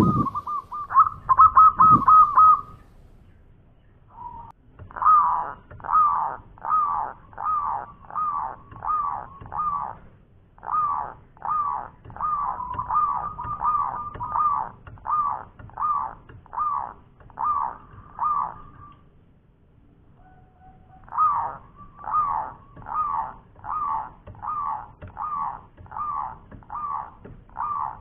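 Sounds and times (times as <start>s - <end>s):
dove giving rough calls: 0.0s - 2.9s, 4.2s - 19.0s, 20.2s - 28.0s.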